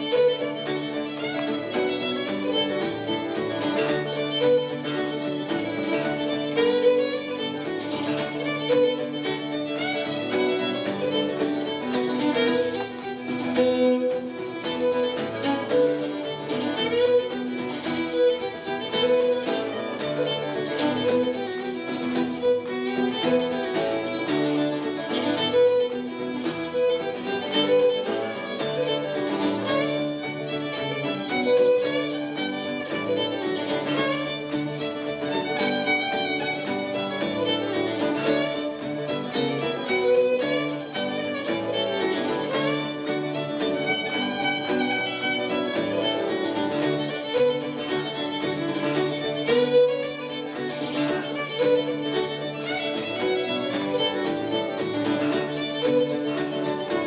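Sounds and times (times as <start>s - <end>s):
fiddle reel: 0.0s - 57.0s.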